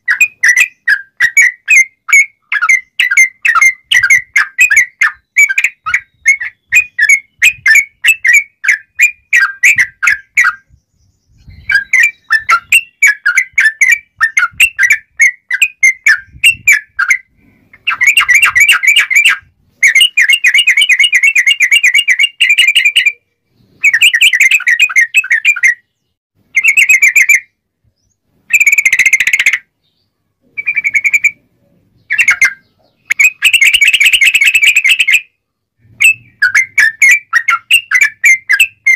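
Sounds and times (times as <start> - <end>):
bulbul singing whistled notes: 0.0 - 38.9.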